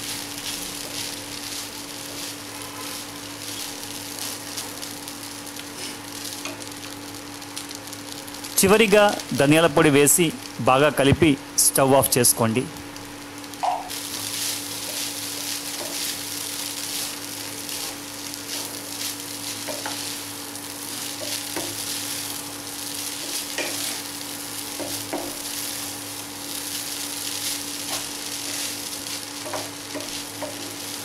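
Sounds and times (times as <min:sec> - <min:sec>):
rice sizzling in a pan: 0:00.0 - 0:31.0.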